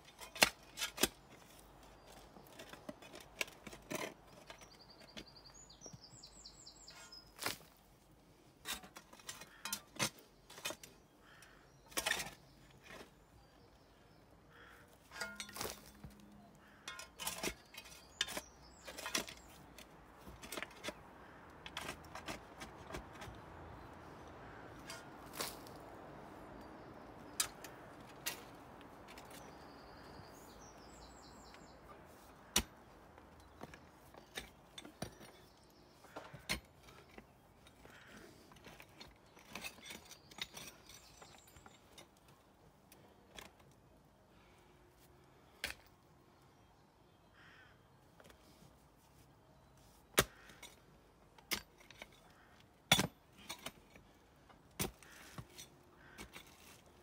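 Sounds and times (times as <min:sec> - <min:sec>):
spade scraping soil and stones: 0:00.0 - 0:13.8, 0:14.6 - 0:42.3, 0:48.2 - 0:57.0.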